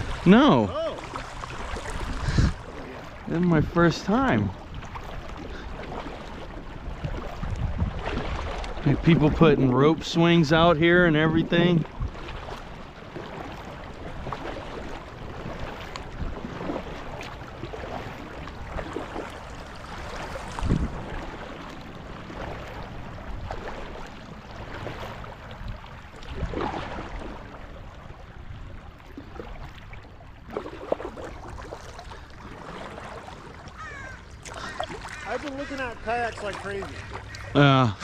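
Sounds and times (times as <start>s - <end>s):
paddle splashing in water: 0.0s - 38.0s
water wash: 0.0s - 38.0s.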